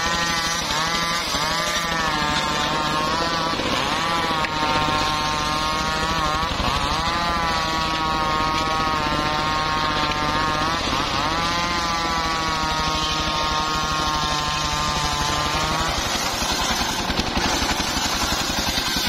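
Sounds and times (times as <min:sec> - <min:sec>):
circular saw blade whine: 0:00.0 - 0:19.0.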